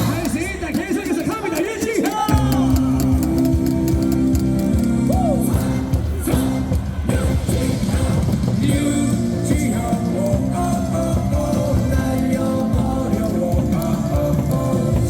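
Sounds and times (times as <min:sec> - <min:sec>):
rock music with singing over loudspeakers: 0:00.0 - 0:15.0.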